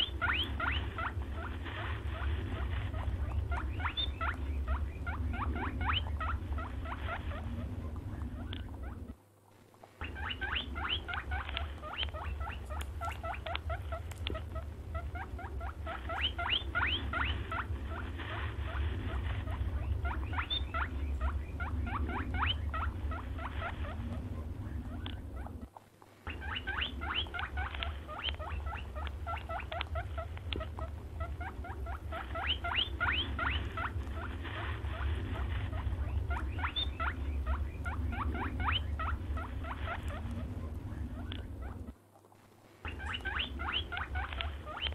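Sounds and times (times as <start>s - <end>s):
hare squeaking and chattering: 0.0s - 9.2s, 10.0s - 42.0s, 42.8s - 44.9s
low steady hum: 0.0s - 44.9s.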